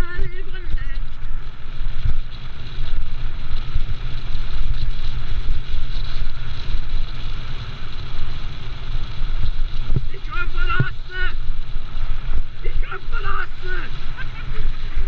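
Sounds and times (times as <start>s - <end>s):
tyres rumbling on gravel: 0.0s - 15.0s
wind buffeting: 0.0s - 15.0s.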